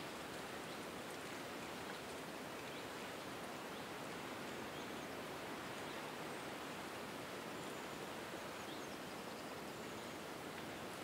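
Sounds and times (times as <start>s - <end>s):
wind rustling forest trees: 0.0s - 11.0s.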